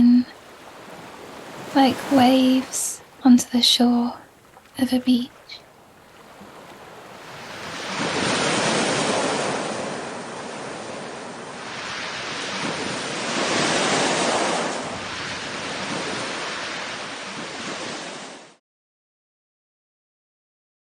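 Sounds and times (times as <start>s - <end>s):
sea waves washing onto shore: 0.0s - 18.6s.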